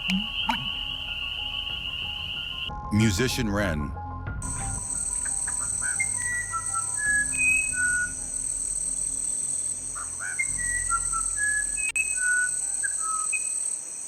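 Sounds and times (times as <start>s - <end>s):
bird singing whistled notes: 0.0s - 2.8s, 4.4s - 13.8s.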